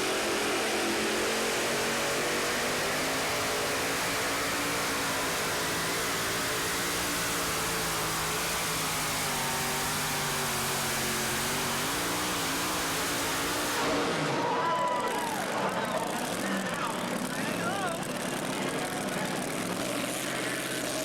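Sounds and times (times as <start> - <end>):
tractor engine running hard: 0.0 - 21.0.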